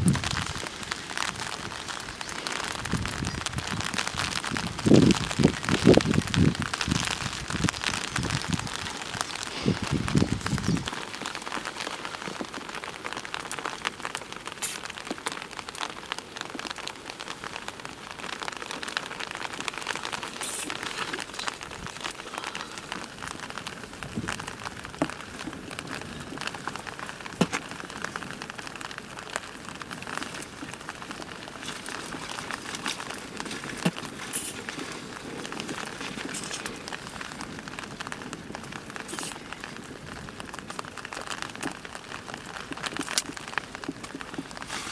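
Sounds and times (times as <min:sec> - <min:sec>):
heavy rain patter: 0:00.0 - 0:44.9.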